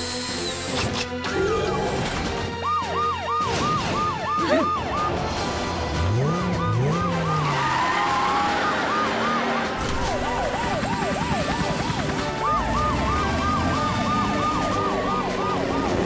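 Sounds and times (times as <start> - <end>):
cartoon sirens wailing: 1.3 - 16.0.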